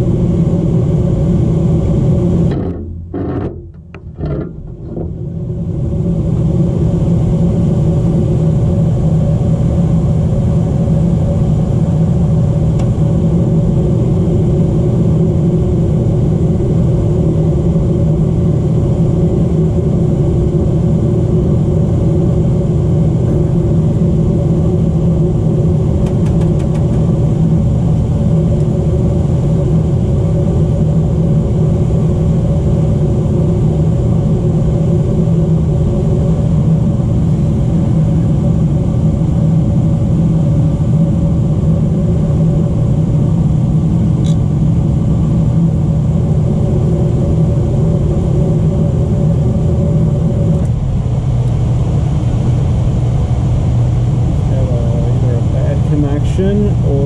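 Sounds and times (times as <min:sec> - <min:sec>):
furnace motor hum: 0:00.0 - 0:57.0.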